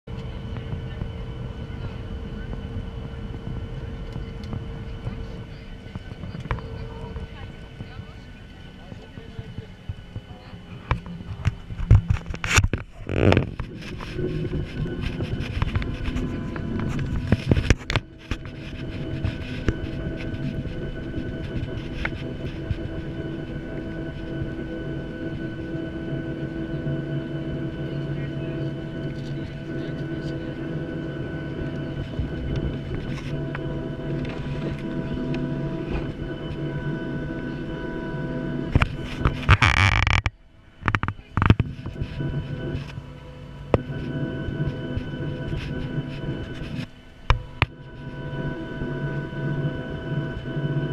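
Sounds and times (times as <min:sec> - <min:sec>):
jet engine whine in cabin: 0:00.1 - 0:50.9.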